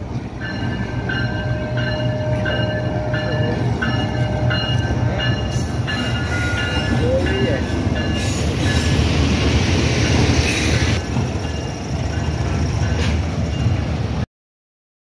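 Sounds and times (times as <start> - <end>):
train wheels rumbling on rails: 0.0 - 14.2.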